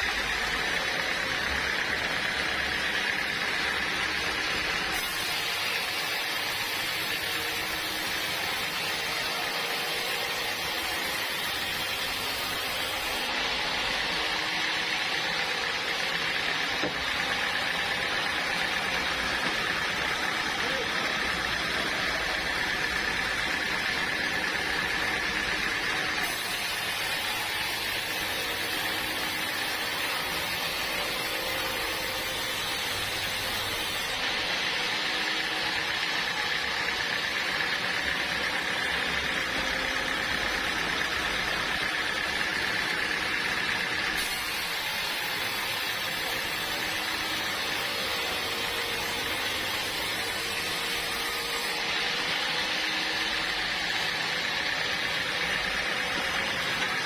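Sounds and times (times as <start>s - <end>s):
sawmill machinery with high whine: 0.0s - 57.0s.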